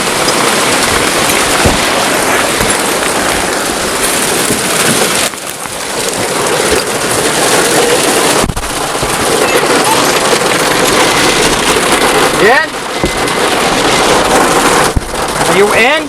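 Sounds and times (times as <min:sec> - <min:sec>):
hail clattering on hard surfaces: 0:00.0 - 0:16.0.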